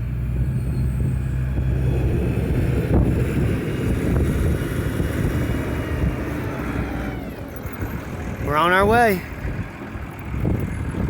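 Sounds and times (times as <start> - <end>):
vehicle running: 0.0 - 11.0
wind buffeting microphone: 0.0 - 11.0.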